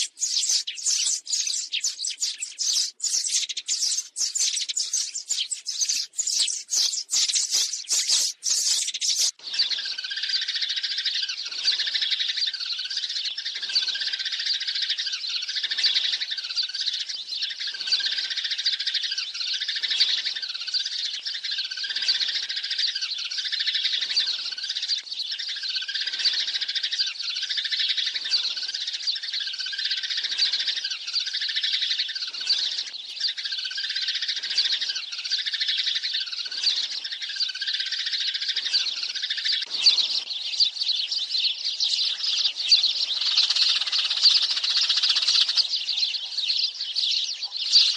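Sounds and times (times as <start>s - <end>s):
sparrows chirping and chattering: 0.0s - 47.9s.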